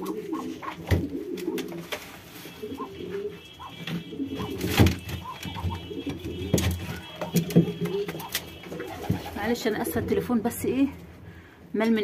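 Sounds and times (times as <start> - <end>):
pigeons cooing: 0.0 - 10.1.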